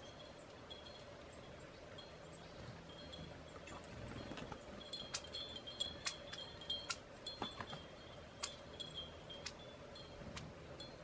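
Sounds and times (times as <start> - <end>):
wind chime clinking: 0.0 - 11.0.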